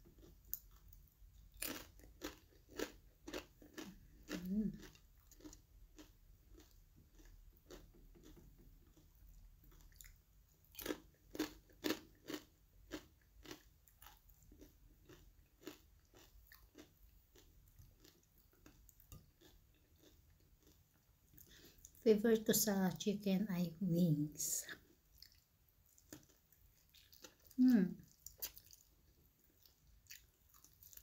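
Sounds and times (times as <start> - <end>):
person chewing crunchy food: 0.0 - 22.0, 24.7 - 31.0.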